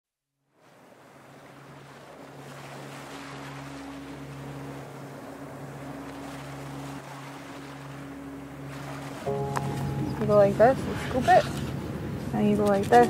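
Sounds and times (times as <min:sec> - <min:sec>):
wind: 0:00.4 - 0:13.0
waves washing: 0:00.5 - 0:13.0.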